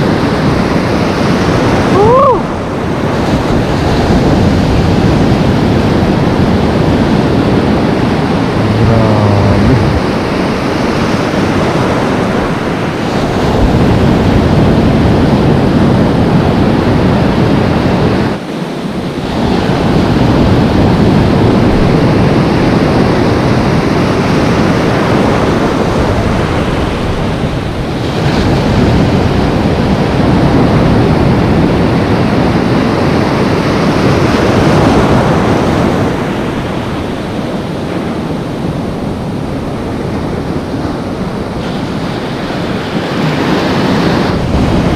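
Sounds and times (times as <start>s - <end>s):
ocean waves breaking: 0.0s - 44.9s.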